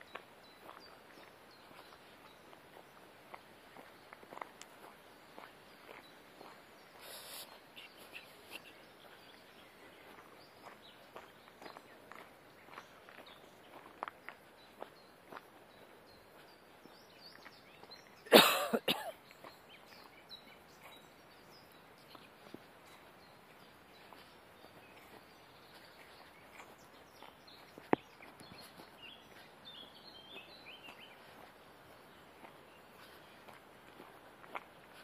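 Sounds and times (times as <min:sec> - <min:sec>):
faint outdoor ambience: 0:00.0 - 0:35.0
footsteps on gravel: 0:00.0 - 0:35.0
faint bird chirps: 0:03.7 - 0:33.6.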